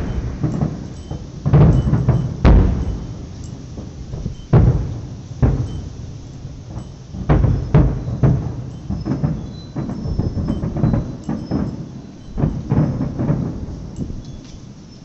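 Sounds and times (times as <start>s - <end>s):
fireworks bursting with deep booms: 0.0s - 15.0s.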